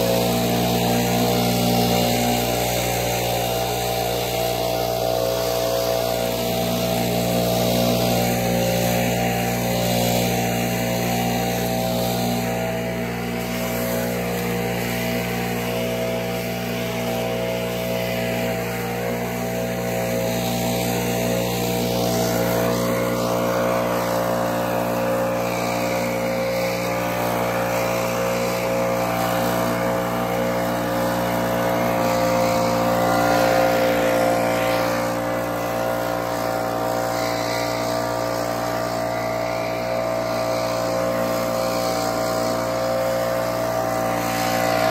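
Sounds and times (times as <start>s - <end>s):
leaf blower engine running: 0.0s - 44.9s.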